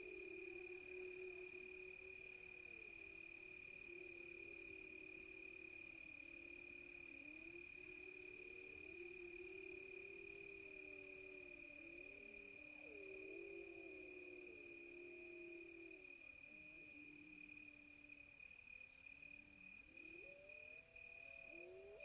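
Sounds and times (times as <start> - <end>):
crickets trilling and chirping: 0.0 - 22.0.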